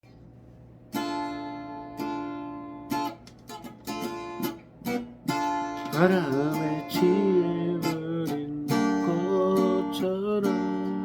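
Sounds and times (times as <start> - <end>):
acoustic guitar strumming chords: 0.9 - 11.0.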